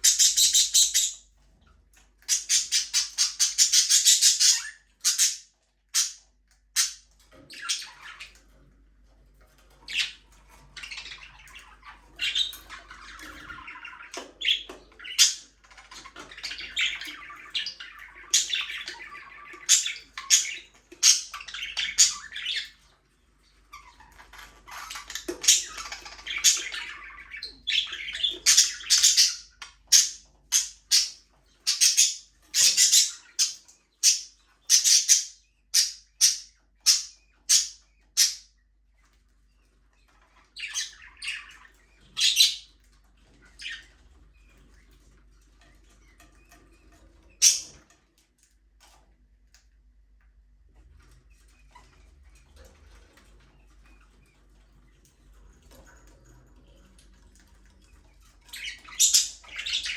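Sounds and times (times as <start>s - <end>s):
budgies chirping and squawking: 0.0s - 48.2s, 50.8s - 59.9s.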